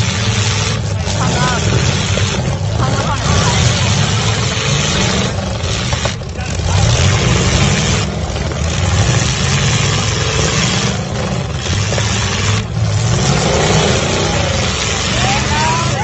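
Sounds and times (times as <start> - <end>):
car engines running loudly: 0.0 - 16.0.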